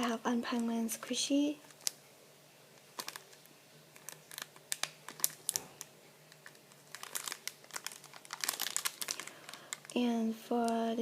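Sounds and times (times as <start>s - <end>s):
plastic packaging crinkling: 0.0s - 2.0s, 2.8s - 11.0s.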